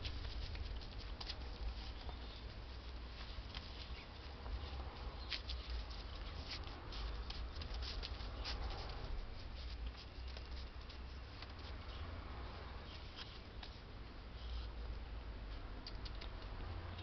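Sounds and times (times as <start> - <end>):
low steady rumble: 0.0 - 17.0
puppy paws pattering on pad: 0.0 - 17.0.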